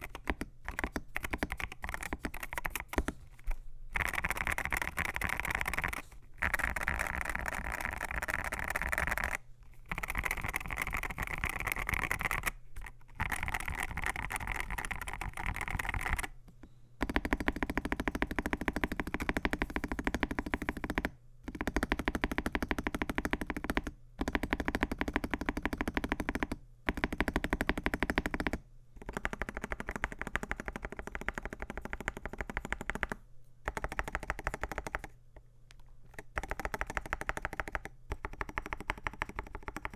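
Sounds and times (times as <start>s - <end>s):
fast mechanical keyboard typing: 0.0s - 3.1s, 4.0s - 16.3s, 17.0s - 35.2s, 36.1s - 39.9s.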